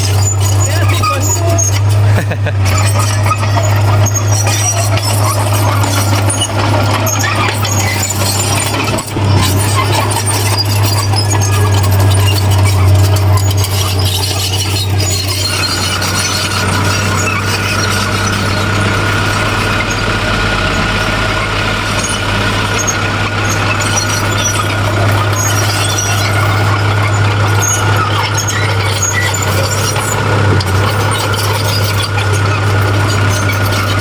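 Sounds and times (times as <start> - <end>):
diesel machinery engine drone: 0.0 - 34.0
high-pitched squeal: 0.0 - 34.0.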